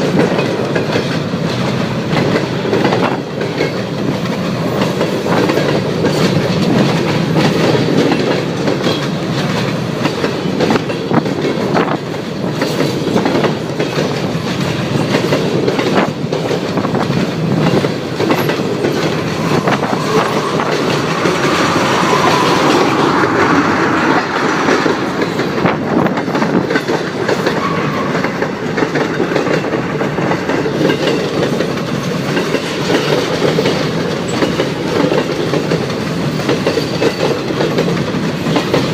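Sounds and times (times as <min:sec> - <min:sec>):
freight train rumbling by: 0:00.0 - 0:38.9
wheels clicking over rail joints: 0:00.0 - 0:38.9.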